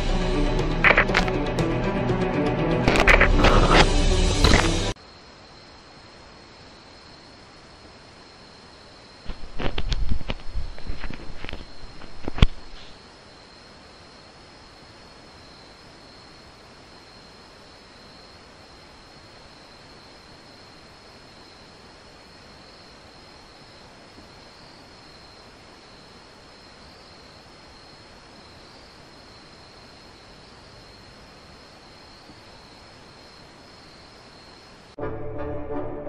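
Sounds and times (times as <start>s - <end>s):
constant hiss: 0.0s - 2.0s, 2.9s - 35.0s
insects trilling: 4.5s - 35.0s.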